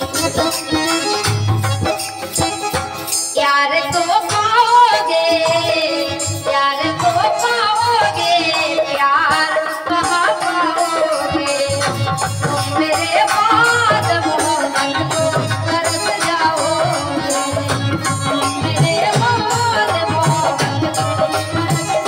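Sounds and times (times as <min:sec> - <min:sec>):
rattling percussion: 0:00.0 - 0:22.0
steady drum beat: 0:00.0 - 0:22.0.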